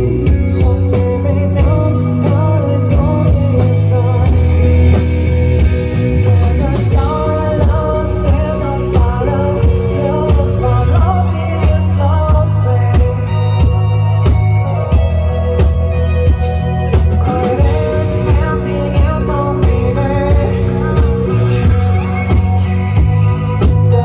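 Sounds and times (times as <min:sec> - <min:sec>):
drum kit: 0:00.0 - 0:24.0
electric guitar: 0:00.0 - 0:24.0
sliding bass line: 0:00.0 - 0:24.0.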